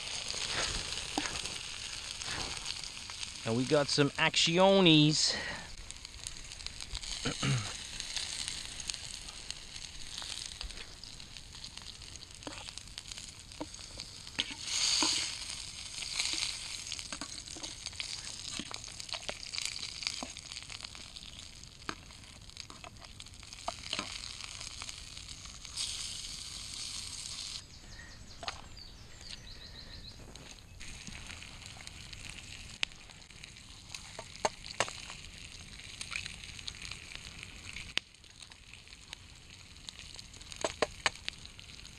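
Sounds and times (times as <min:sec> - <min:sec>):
oil popping and spitting: 0:00.0 - 0:03.6, 0:05.7 - 0:27.6, 0:30.3 - 0:41.9
sausage sizzling in oil: 0:00.0 - 0:27.8, 0:28.7 - 0:41.9.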